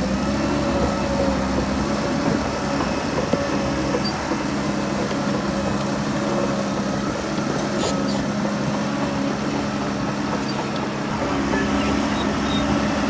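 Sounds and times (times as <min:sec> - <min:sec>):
diesel machinery engine hum: 0:00.0 - 0:13.0.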